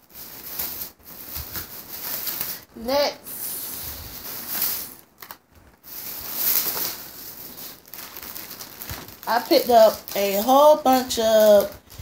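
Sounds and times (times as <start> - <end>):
rustling bags being handled: 0.0 - 12.0.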